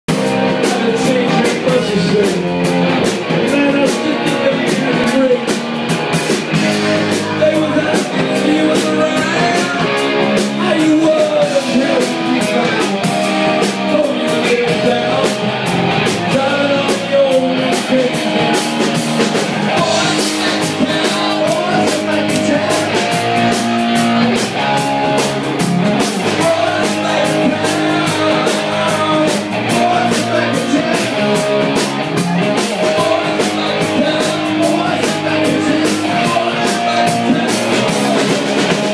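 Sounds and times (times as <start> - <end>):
drum kit beat: 0.0 - 38.9
electric guitar: 0.1 - 38.9
man singing into microphone: 0.5 - 2.7, 3.3 - 5.6, 6.8 - 18.8, 19.4 - 23.6, 26.2 - 31.4, 32.3 - 38.9.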